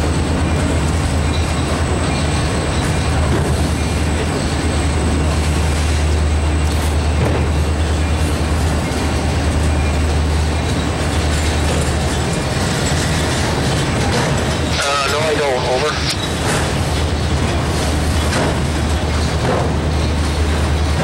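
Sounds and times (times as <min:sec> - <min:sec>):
freight train rolling past: 0:00.0 - 0:21.0
wheel and rail noise: 0:00.0 - 0:21.0.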